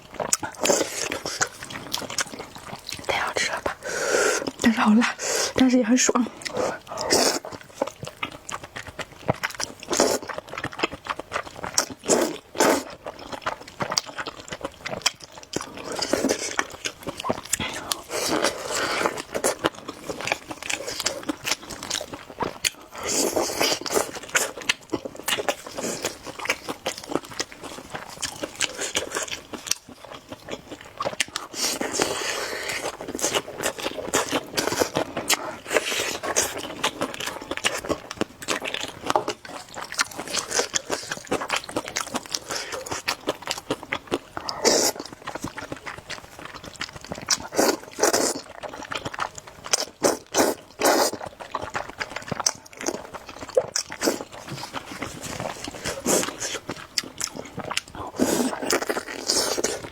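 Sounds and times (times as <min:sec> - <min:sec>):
person chewing noodles: 0:00.0 - 0:59.9.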